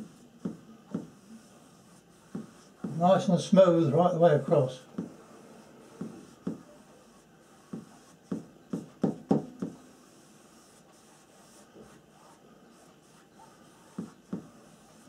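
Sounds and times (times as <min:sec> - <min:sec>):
faint paintbrush brushing: 0:00.0 - 0:15.0.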